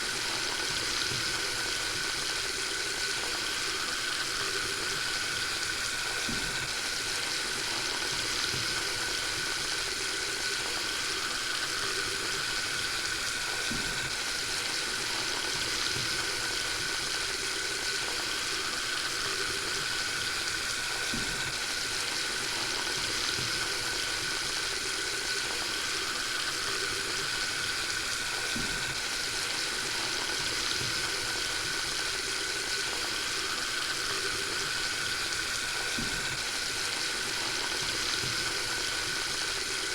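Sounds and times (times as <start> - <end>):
tap water running into sink: 0.1 - 39.9.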